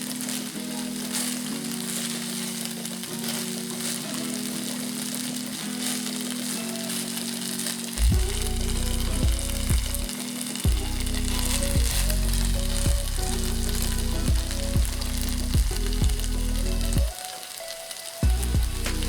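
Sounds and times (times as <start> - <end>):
background music: 0.0 - 19.0
sausages sizzling in a frying pan: 0.0 - 19.0.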